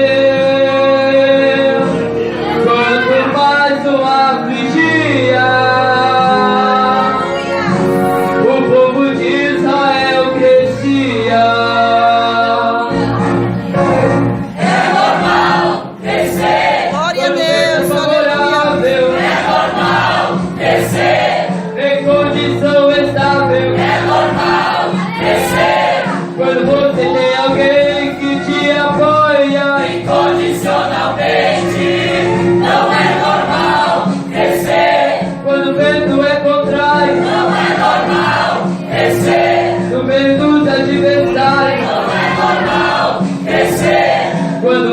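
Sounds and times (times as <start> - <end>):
choir singing a hymn: 0.0 - 17.0, 18.5 - 21.8, 22.8 - 35.9, 36.8 - 44.9.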